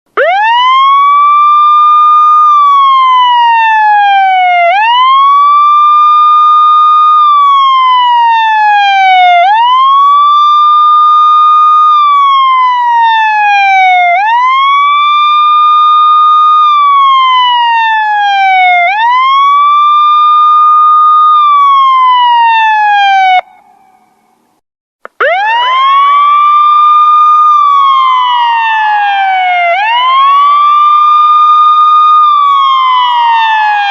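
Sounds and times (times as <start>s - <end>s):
police siren wailing: 0.1s - 24.3s, 25.1s - 33.9s.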